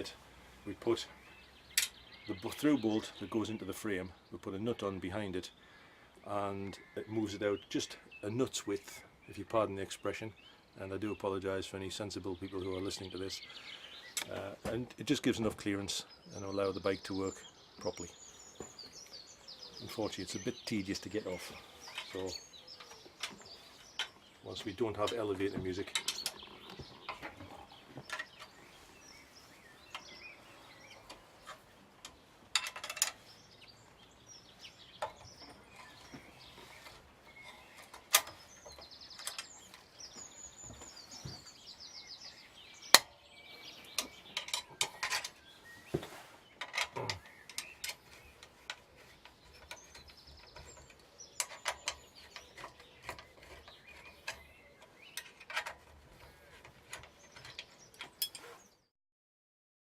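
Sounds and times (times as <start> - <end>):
bird chirps: 0.0 - 58.9.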